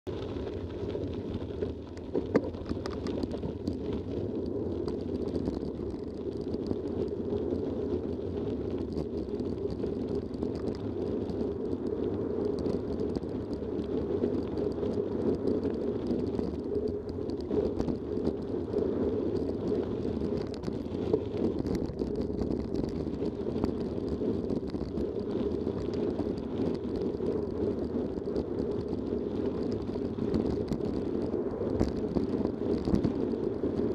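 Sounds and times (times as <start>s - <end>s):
bike rattles and clicks: 0.1s - 33.9s
bike tyres on gravel: 0.1s - 33.9s.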